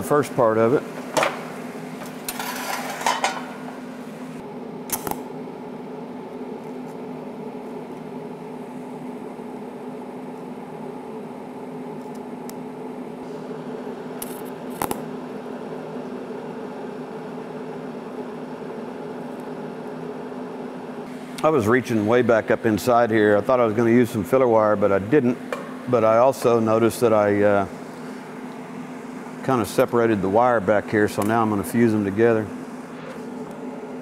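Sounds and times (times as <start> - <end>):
welding arc hum: 0.0 - 34.0.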